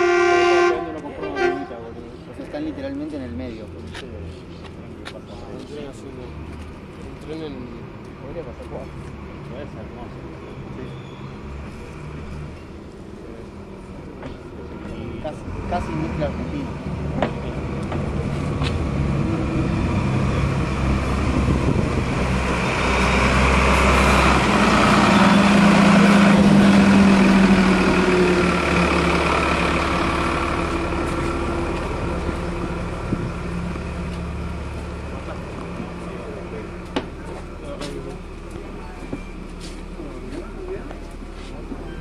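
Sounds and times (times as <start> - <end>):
diesel railcar engine: 0.0 - 42.0.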